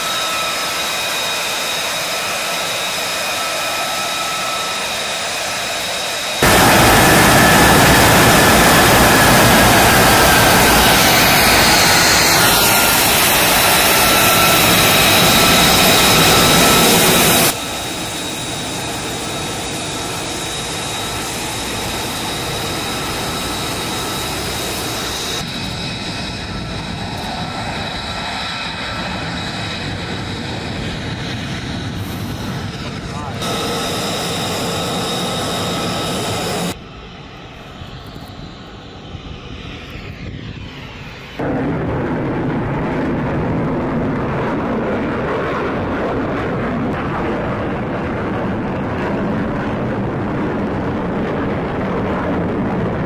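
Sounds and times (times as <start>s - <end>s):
jet engine roar and whine: 0.0s - 53.0s.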